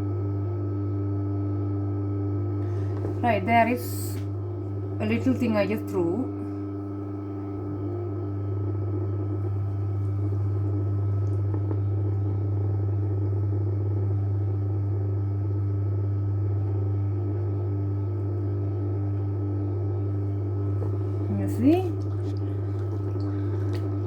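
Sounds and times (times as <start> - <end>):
pottery wheel motor humming: 0.0 - 24.0.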